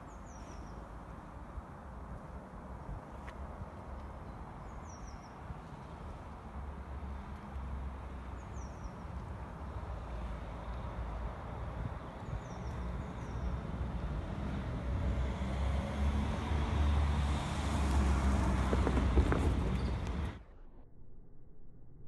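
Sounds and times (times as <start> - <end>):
vehicle engine rumble: 0.0 - 20.8.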